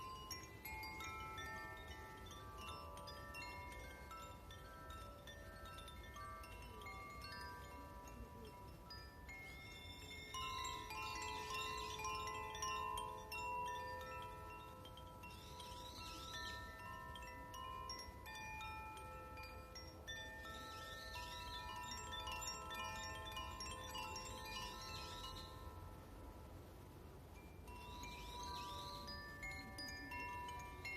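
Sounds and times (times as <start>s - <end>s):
chimes ringing: 0.0s - 26.6s, 27.3s - 30.9s.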